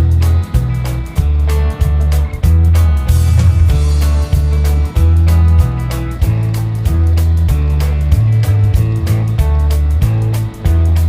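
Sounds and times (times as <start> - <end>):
music with bass and guitar: 0.0 - 11.0.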